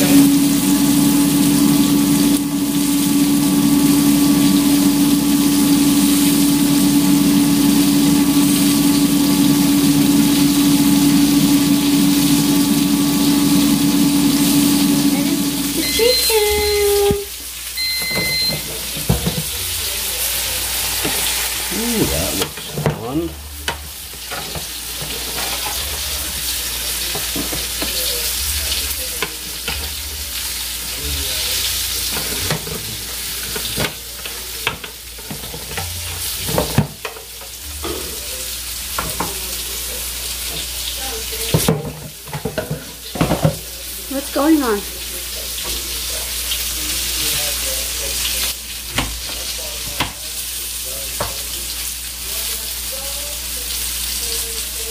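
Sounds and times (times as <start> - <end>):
beans sizzling in a pan: 0.0 - 54.9.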